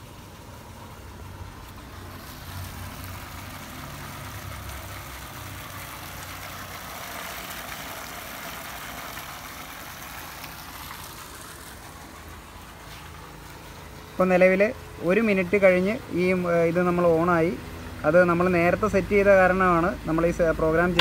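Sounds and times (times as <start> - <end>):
water gushing into plastic barrel: 0.0 - 21.0.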